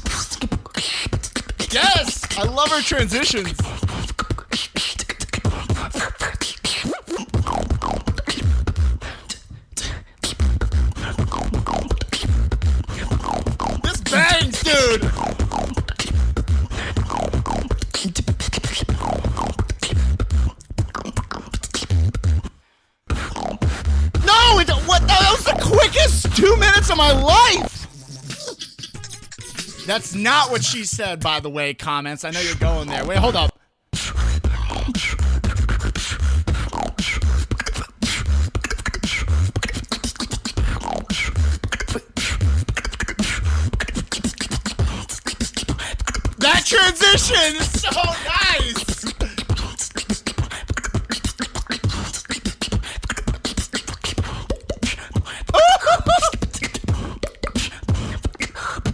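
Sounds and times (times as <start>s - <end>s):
woman beatboxing: 0.0s - 22.5s, 23.1s - 29.0s, 33.2s - 58.9s.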